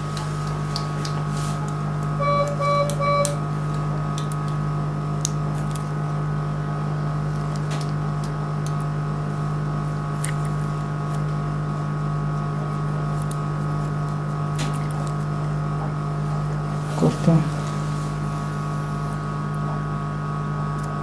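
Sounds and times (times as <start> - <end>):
electrical equipment humming: 0.0 - 21.0.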